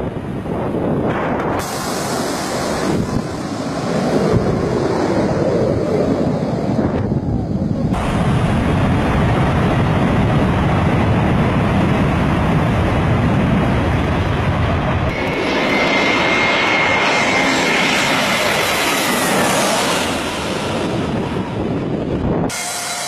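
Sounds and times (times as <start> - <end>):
jet airliner passing low: 0.0 - 23.0
jet engines rumbling: 0.0 - 23.0.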